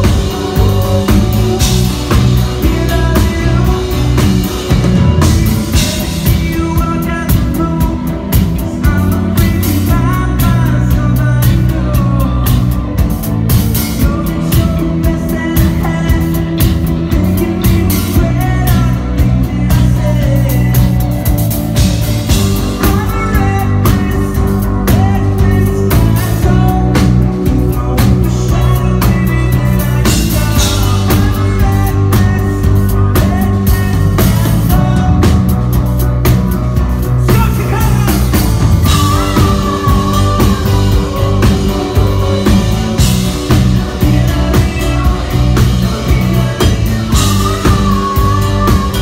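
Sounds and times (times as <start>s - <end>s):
bass guitar: 0.0s - 49.0s
drum kit: 0.0s - 49.0s
electric guitar: 0.0s - 49.0s
person singing: 0.0s - 49.0s.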